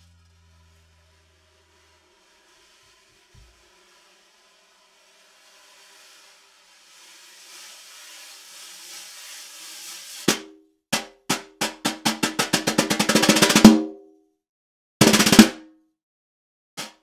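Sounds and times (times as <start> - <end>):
wire brush sweeping snare drum: 0.0 - 13.9, 15.0 - 15.6, 16.8 - 17.0
snare drum strokes and roll: 0.0 - 14.0, 15.0 - 15.7, 16.8 - 17.0.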